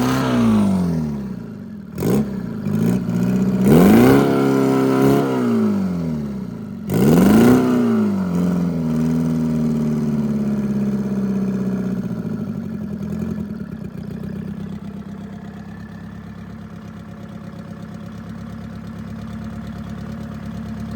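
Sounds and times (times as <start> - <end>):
diesel engine revving and idling: 0.0 - 20.9.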